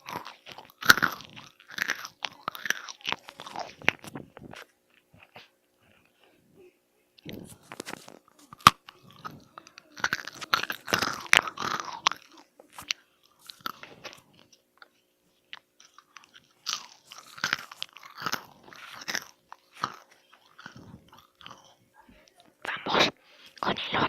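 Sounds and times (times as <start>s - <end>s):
crisp food crunching: 0.0s - 6.1s, 7.2s - 22.8s.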